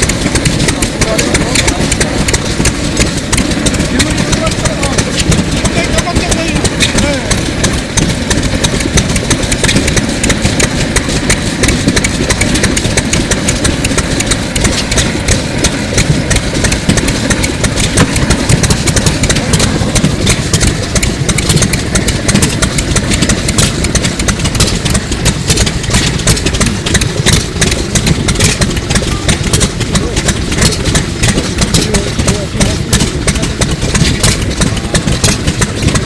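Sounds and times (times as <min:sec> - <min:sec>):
engine running with mechanical clatter: 0:00.0 - 0:36.0.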